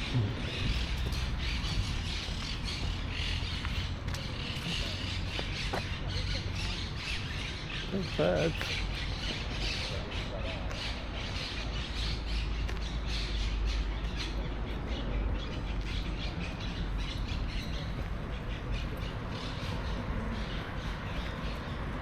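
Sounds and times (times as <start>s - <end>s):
large birds squawking: 0.0s - 22.0s.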